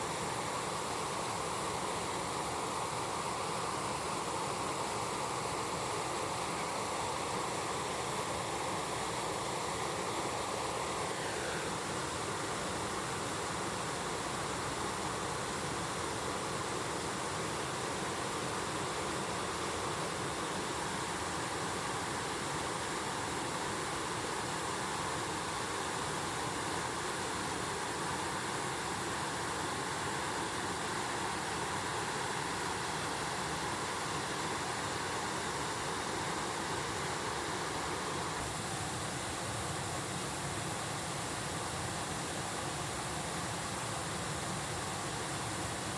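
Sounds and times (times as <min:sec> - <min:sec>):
stream water rushing: 0:00.0 - 0:45.9.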